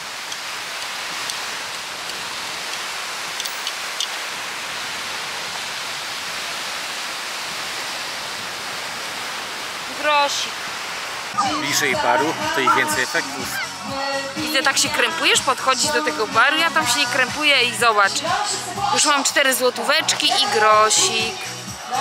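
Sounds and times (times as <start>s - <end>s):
small waves washing onto sand: 0.0s - 22.0s.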